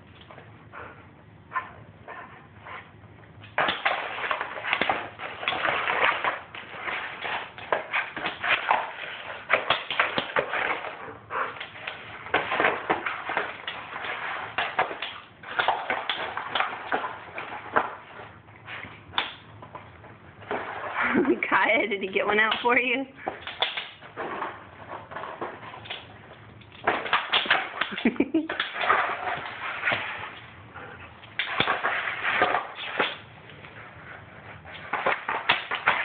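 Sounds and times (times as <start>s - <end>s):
dogs tearing cardboard: 3.4s - 21.7s, 22.5s - 33.7s, 34.5s - 36.0s.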